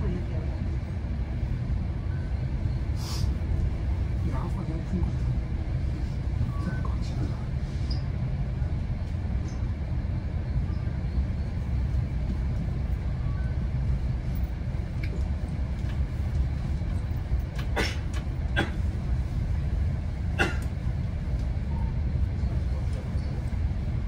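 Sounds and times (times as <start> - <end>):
train rumble from inside coach: 0.0 - 24.0.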